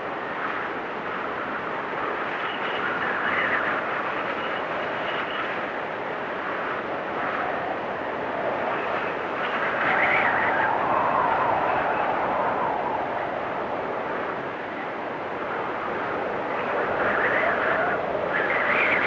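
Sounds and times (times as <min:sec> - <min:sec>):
blizzard wind gusting: 0:00.0 - 0:19.0.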